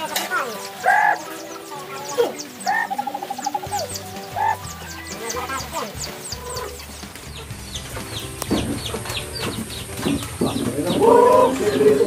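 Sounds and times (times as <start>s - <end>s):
chickens clucking: 0.0s - 12.0s
rapid high chirps: 0.8s - 10.6s.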